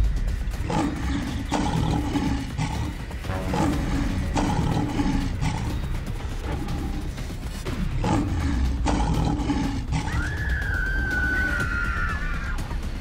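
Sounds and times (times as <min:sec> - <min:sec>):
background music: 0:00.0 - 0:13.0
tiger roaring and growling: 0:00.5 - 0:11.6.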